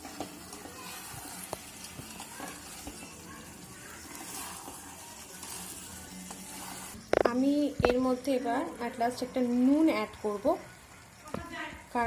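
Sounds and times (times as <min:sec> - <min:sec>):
chicken sizzling in a pan: 0:00.0 - 0:11.3.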